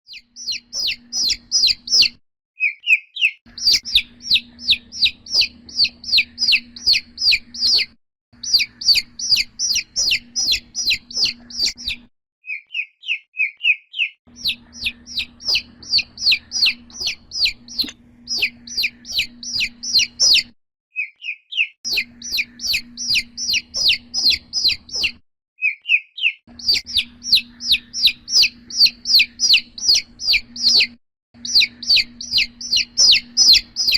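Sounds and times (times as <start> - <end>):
chick peeping: 0.1 - 20.5, 21.1 - 33.9.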